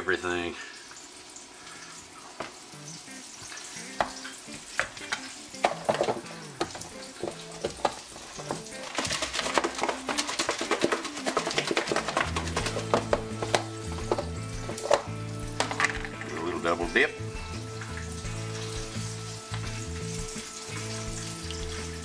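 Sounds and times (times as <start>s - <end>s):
meat sizzling in oil: 0.0s - 22.0s
oil crackling and popping: 0.6s - 22.0s.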